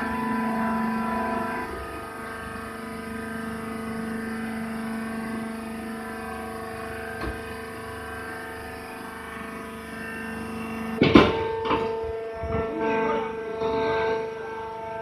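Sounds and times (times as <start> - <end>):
hydraulic motor humming: 0.0 - 15.0.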